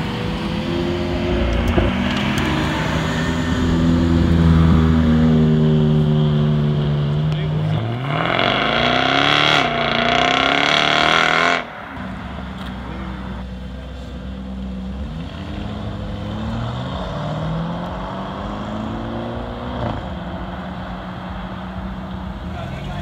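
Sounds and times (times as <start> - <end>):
car accelerating hard: 0.0 - 22.6
car pulling out and driving off: 0.0 - 23.0.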